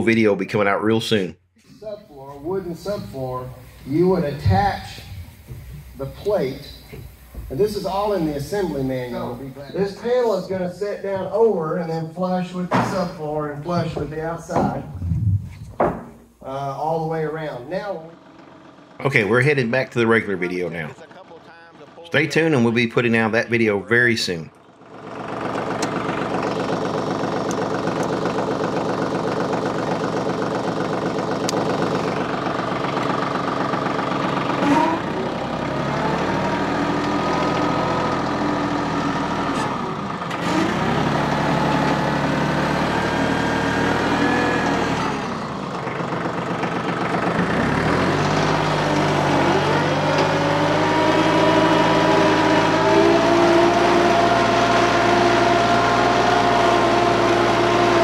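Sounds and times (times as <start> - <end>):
diesel tractor engine running: 1.8 - 58.0.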